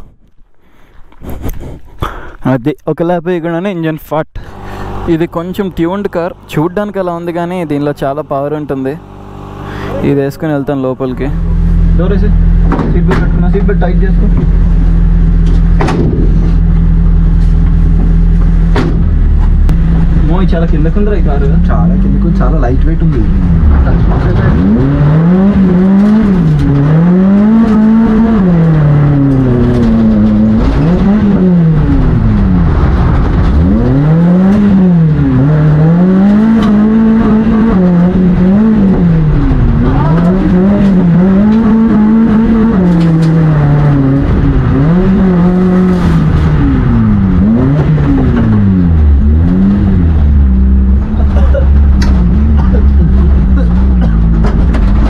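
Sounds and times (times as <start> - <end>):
car engine revving: 4.4 - 55.0
tyres rumbling on dirt: 4.8 - 55.0.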